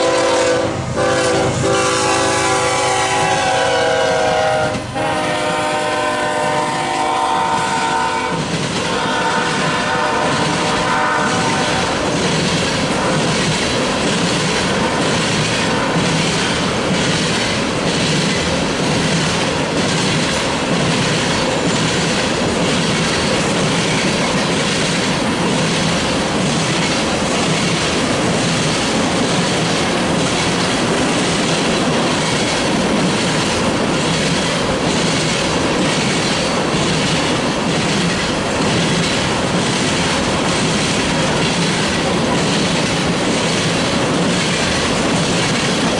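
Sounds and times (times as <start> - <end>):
clickety-clack of rail joints: 0.0 - 45.9
train wheels rumbling on rail: 0.0 - 45.9.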